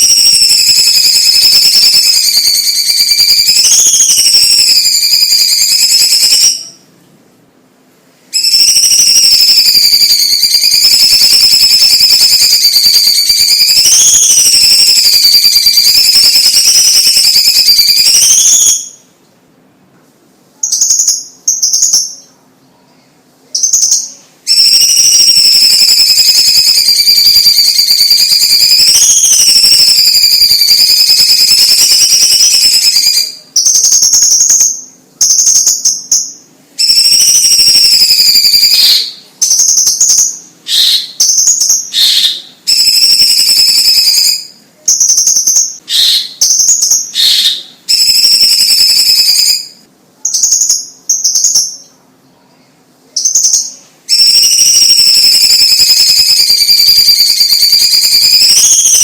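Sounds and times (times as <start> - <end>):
bird singing whistled phrases: 0.0 - 6.8, 8.3 - 19.1, 20.6 - 22.4, 23.5 - 51.9, 53.1 - 59.0.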